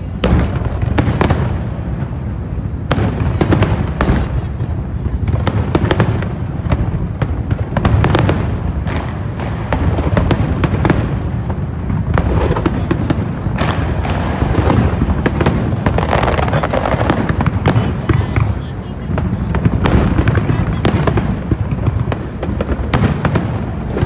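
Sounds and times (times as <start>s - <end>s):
firework bangs: 0.0s - 24.0s
firework crackling: 0.0s - 24.0s.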